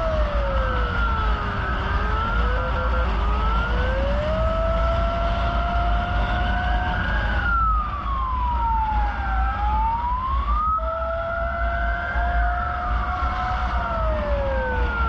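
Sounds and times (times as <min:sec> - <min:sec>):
siren wailing: 0:00.0 - 0:15.0
steady siren tone: 0:00.0 - 0:15.0
vehicle and road rumble: 0:00.0 - 0:15.0.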